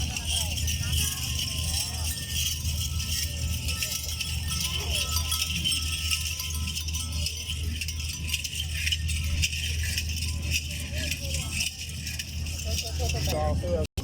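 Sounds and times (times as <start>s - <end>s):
steady low hum: 0.0s - 13.9s
small bells jingling: 0.0s - 14.0s.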